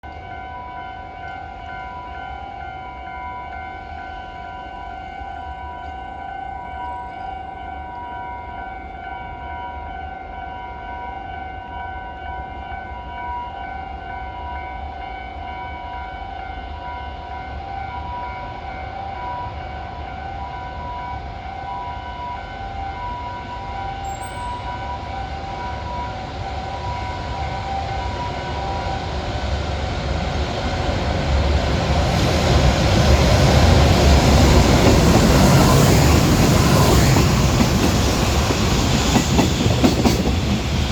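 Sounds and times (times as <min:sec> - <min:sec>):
freight train approaching: 0:00.0 - 0:40.9.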